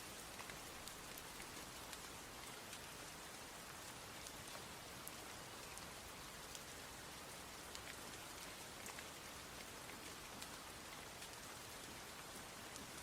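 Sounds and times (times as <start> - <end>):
raindrops ticking on surfaces: 0.0 - 13.0
steady rain falling: 0.0 - 13.0.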